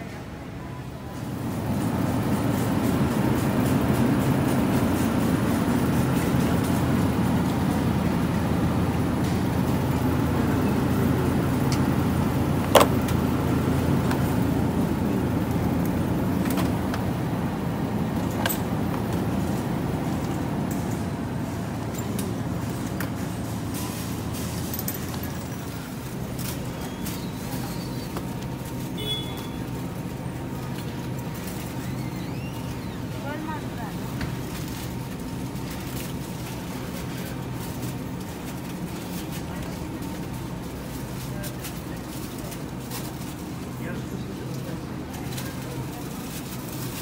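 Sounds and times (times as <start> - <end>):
car road and engine rumble: 0.0 - 47.0.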